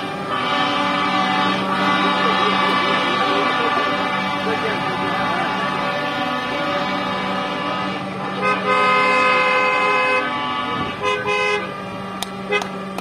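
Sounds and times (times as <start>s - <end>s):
passing engines: 0.0s - 13.0s
vehicle horns honking: 0.0s - 13.0s.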